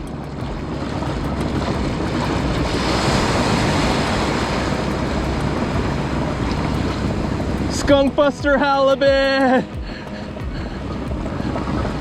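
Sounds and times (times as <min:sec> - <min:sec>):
ocean surf washing on beach: 0:00.0 - 0:12.0
wind buffeting microphone: 0:00.0 - 0:12.0.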